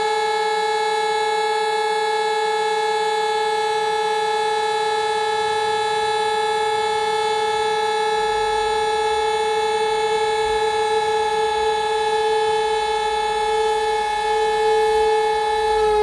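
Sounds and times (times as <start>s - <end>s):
siren steady pitch: 0.0s - 16.0s.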